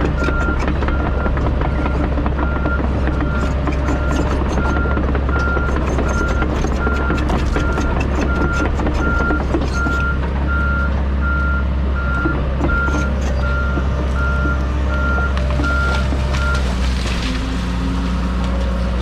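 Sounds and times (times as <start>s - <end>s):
excavator travel alarm beeping: 0.0s - 16.7s
diesel engine running: 0.0s - 19.0s.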